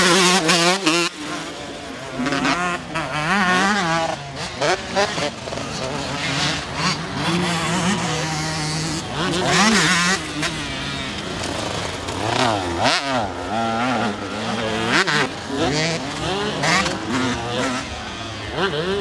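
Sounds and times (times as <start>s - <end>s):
two-stroke motorbike engine revving: 0.0s - 19.0s.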